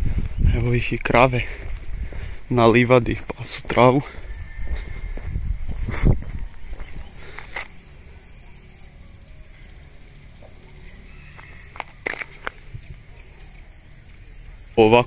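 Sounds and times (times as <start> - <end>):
insects singing: 0.0 - 15.0.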